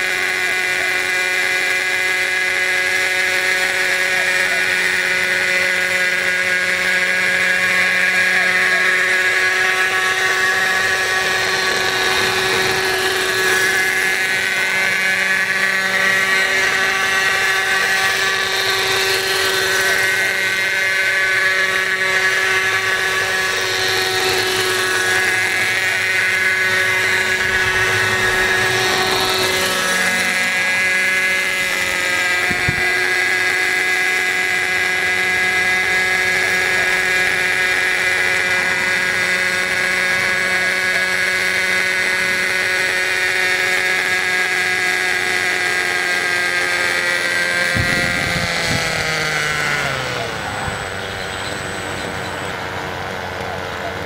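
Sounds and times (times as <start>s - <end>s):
model helicopter engine buzzing: 0.0s - 54.0s
rotor whir: 0.0s - 54.0s.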